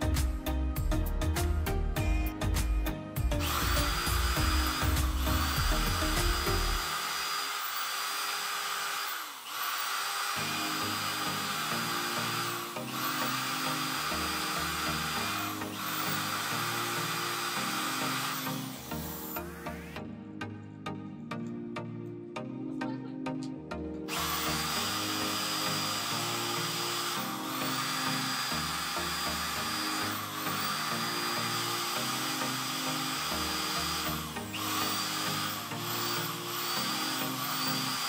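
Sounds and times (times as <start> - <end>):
electric drill boring into metal: 3.3 - 20.0, 24.1 - 38.0.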